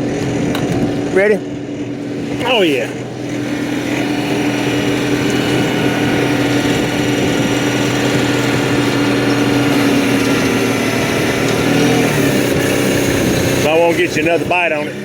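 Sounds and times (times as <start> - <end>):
motor-driven machine running: 0.3 - 15.0.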